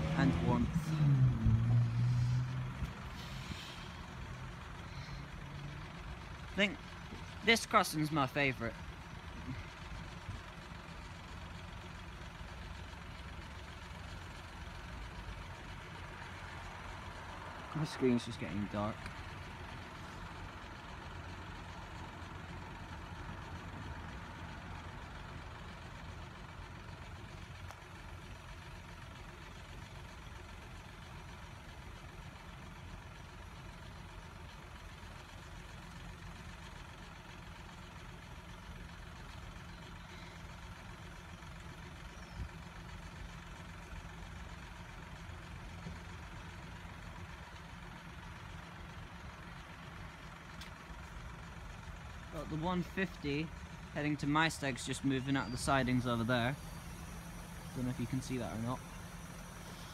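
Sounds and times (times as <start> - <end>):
engines idling: 0.0 - 59.9.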